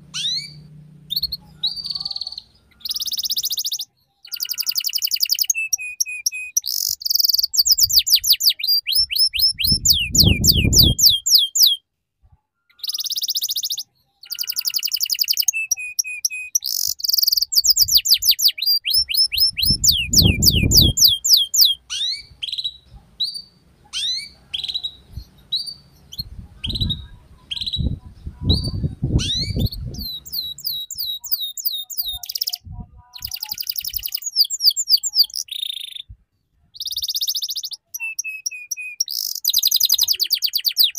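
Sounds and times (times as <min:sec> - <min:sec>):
canary singing trills: 0:00.0 - 0:11.8, 0:12.7 - 0:40.9.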